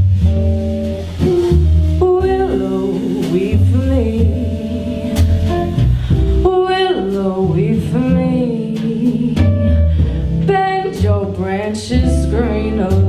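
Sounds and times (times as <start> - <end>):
bass: 0.0 - 13.0
guitar: 0.0 - 13.0
woman singing jazz ballad: 0.6 - 13.0.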